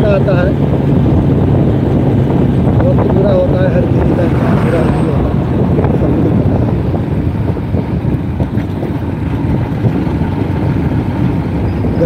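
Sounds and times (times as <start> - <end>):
motorcycle engine: 0.0 - 12.0
wind rushing over microphone: 0.0 - 12.0.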